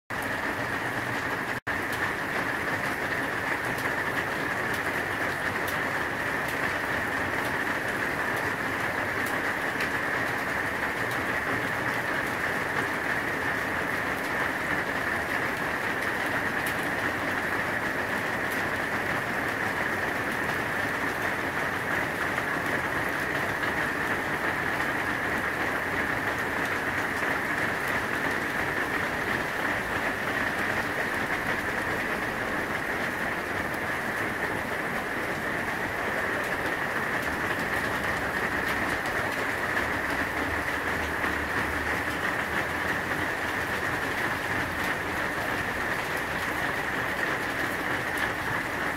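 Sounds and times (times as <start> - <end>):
rain on a metal roof: 0.1 - 48.9.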